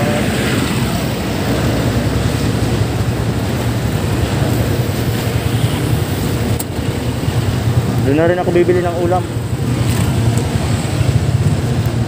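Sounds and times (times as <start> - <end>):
road vehicle rumble: 0.0 - 12.0
wind rushing over microphone: 0.0 - 12.0.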